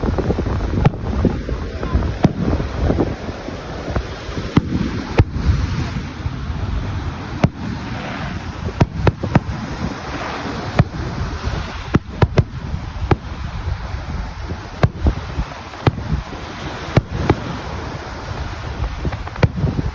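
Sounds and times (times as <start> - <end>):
low rumble: 0.0 - 16.4
fireworks bangs: 0.0 - 19.9.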